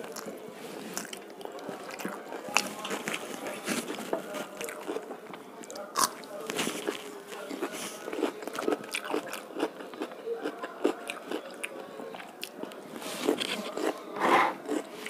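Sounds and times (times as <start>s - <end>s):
raw vegetable crunching: 0.0s - 11.7s, 12.3s - 14.9s.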